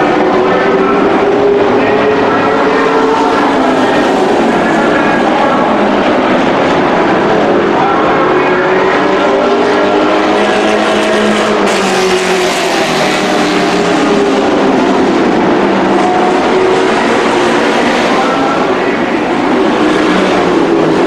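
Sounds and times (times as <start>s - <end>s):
race truck engines passing: 0.0s - 21.0s.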